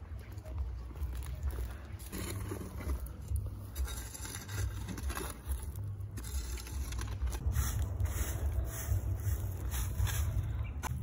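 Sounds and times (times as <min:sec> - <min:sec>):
steady low rumble: 0:00.0 - 0:11.0
broom sweeping ash on ground: 0:01.9 - 0:10.9.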